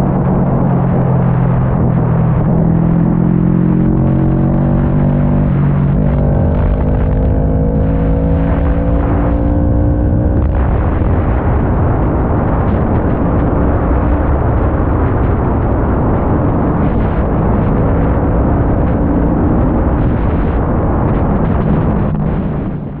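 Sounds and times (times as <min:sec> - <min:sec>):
loud rough rushing noise: 0:00.0 - 0:23.0.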